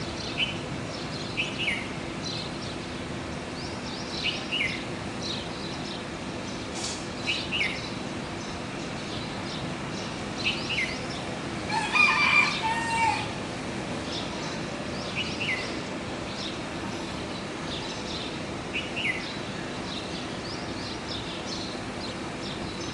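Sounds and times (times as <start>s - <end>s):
birds calling: 0.0s - 22.9s
low background hum: 0.0s - 22.9s.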